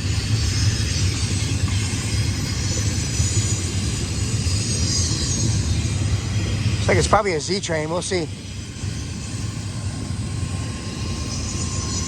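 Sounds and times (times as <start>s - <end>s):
freight train cars rumbling: 0.0s - 12.0s
train wheels on rails: 0.0s - 12.0s.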